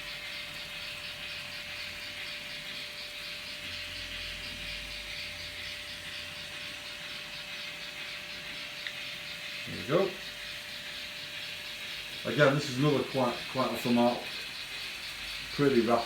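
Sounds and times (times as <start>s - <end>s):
model trains rattling: 0.0s - 16.0s
motor hum: 0.0s - 16.0s.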